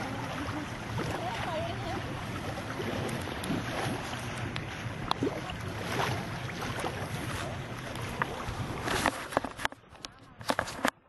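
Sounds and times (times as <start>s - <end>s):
wind and water rushing: 0.0s - 10.9s
motorboat engine running: 0.0s - 11.0s.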